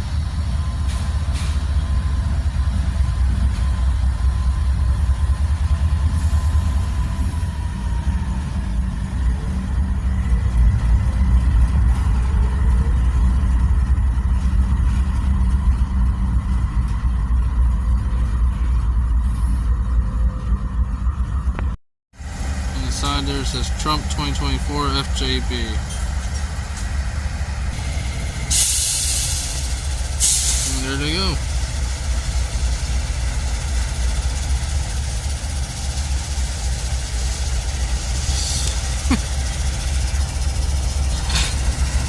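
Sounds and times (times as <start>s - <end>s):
diesel locomotives rumbling: 0.0s - 42.0s.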